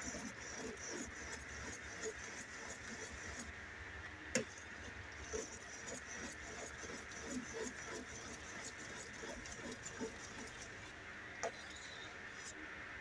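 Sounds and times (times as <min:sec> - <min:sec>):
ladle scraping pot: 0:00.0 - 0:03.5, 0:04.4 - 0:12.5.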